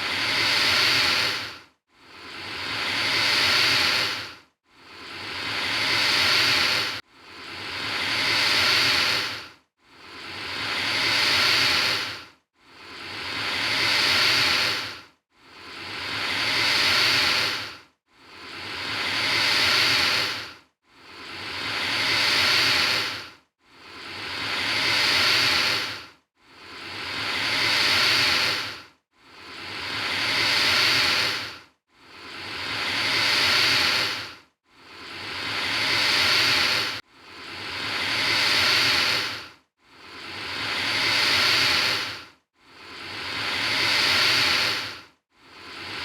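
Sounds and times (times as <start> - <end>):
alligator hissing: 0.0 - 1.5, 2.2 - 4.3, 5.0 - 7.0, 7.6 - 9.4, 10.2 - 12.2, 12.8 - 15.0, 15.6 - 23.2, 24.0 - 26.0, 26.7 - 28.8, 29.4 - 31.6, 32.2 - 39.4, 40.2 - 45.0.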